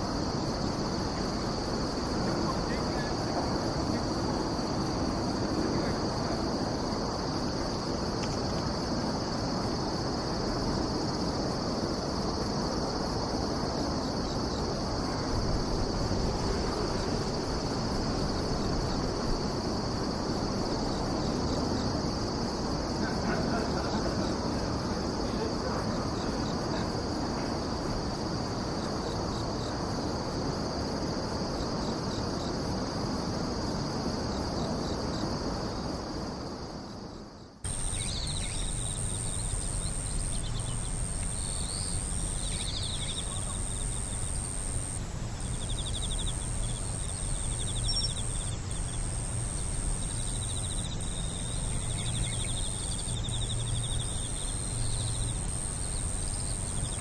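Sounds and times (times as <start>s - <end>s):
crickets trilling: 0.0s - 57.0s
high insect buzz: 0.0s - 57.0s.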